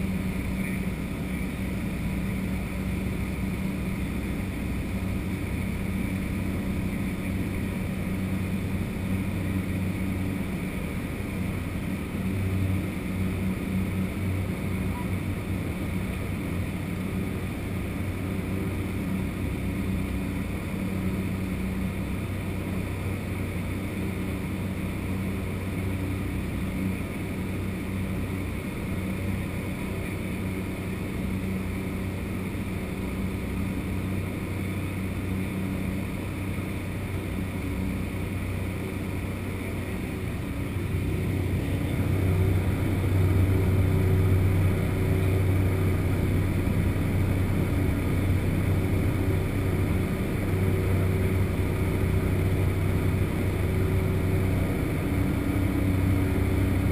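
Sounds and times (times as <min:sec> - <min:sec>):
turboprop engine drone: 0:00.0 - 0:56.9.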